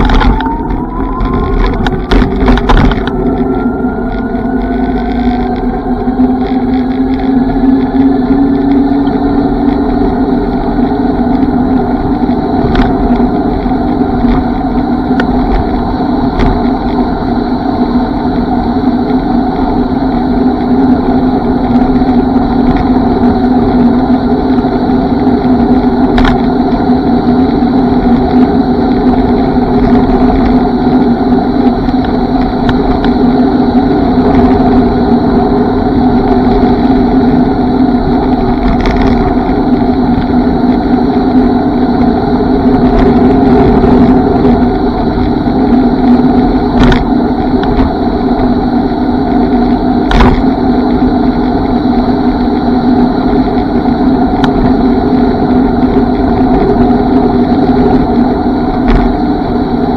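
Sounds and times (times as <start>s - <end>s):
motor humming: 0.0s - 59.9s
road rumble: 0.0s - 59.9s
wind: 0.0s - 59.9s.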